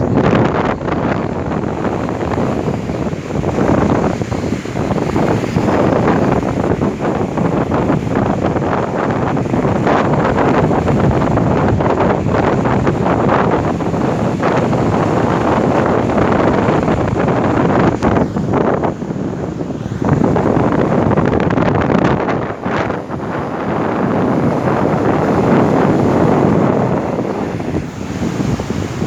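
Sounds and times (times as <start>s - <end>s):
sea waves breaking on shore: 0.0s - 29.0s
wind gusting against microphone: 0.0s - 29.0s.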